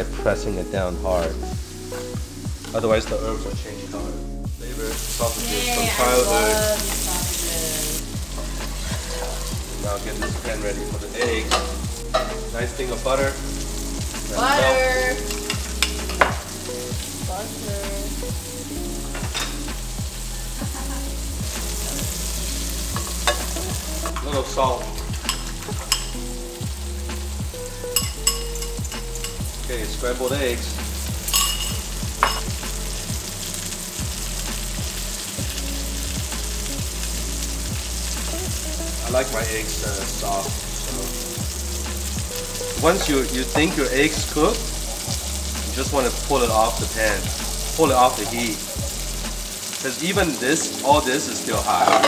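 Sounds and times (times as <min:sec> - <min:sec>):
background music with low beat: 0:00.0 - 0:52.0
butter sizzling in a frying pan: 0:00.0 - 0:52.0
sausages frying: 0:00.0 - 0:52.0.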